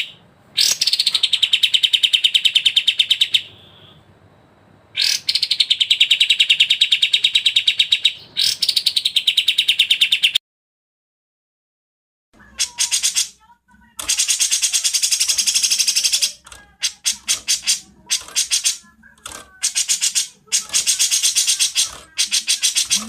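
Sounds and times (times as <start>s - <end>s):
songbird chattering trills: 0.0s - 4.0s, 4.9s - 10.4s, 12.5s - 13.4s, 14.0s - 23.0s.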